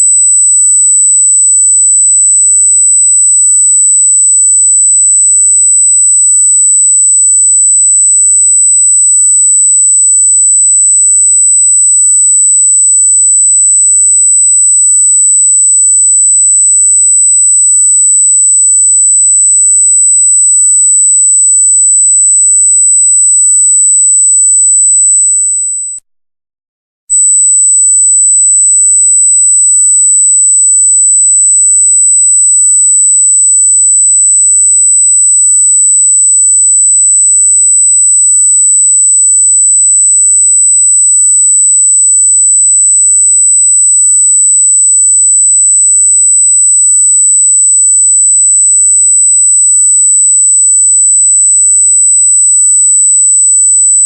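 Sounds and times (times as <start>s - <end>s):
high-pitched electronic sine tone: 0.0s - 26.1s, 27.1s - 54.0s.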